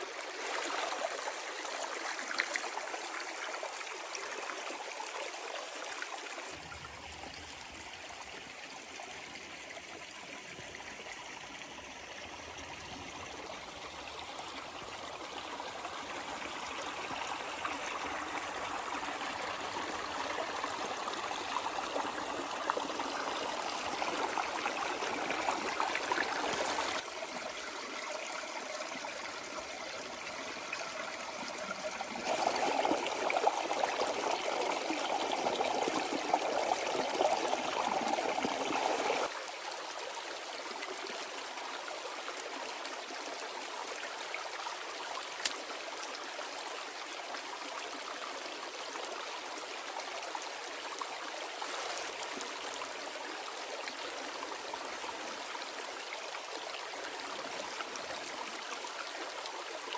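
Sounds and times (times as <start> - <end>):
running water rushing: 0.0 - 6.6, 12.0 - 59.9.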